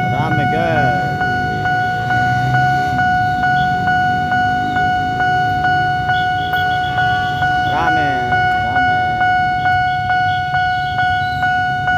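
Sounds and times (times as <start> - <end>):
level crossing warning alarm: 0.0 - 11.9
low rumble of traffic engines: 0.0 - 11.9.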